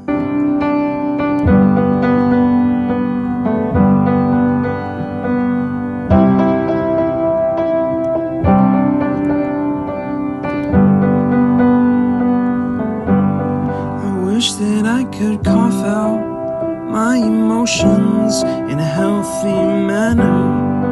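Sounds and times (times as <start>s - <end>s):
piano chords: 0.0s - 20.9s.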